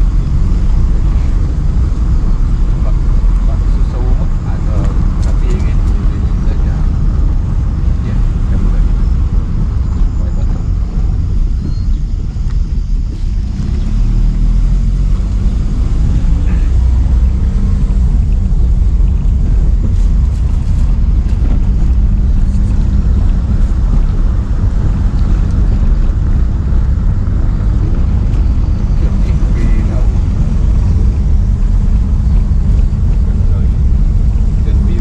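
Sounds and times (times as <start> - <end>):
vehicle interior rumble: 0.0 - 35.0.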